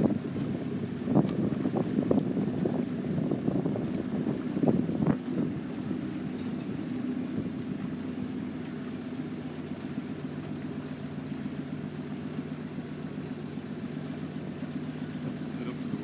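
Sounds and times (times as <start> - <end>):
motorboat motor humming: 0.0 - 16.0.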